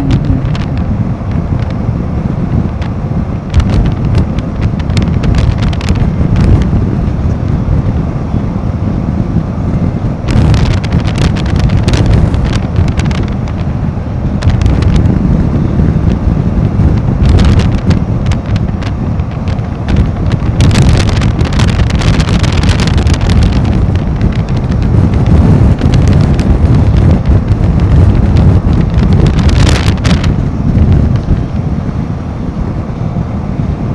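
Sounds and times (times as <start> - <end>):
motorcycle engine rumble: 0.0 - 33.9
wind buffeting microphone: 0.0 - 33.9.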